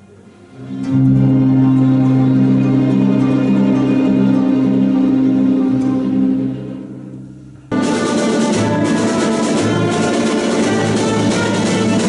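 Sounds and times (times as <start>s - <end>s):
orchestra holding a sustained chord: 0.4s - 12.0s.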